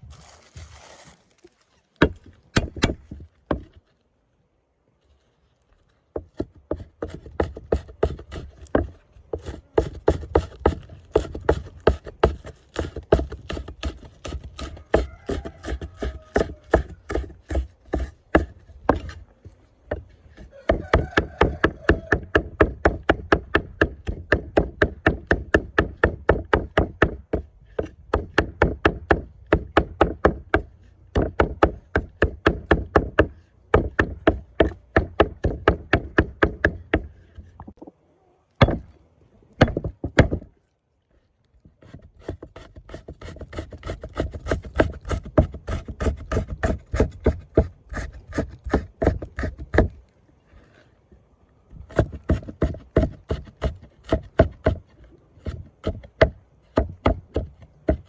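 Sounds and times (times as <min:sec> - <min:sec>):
knife chopping on wooden board: 0:02.0 - 0:03.8, 0:06.2 - 0:19.2, 0:19.9 - 0:37.1, 0:38.6 - 0:38.9, 0:41.8 - 0:50.0, 0:51.9 - 0:58.0.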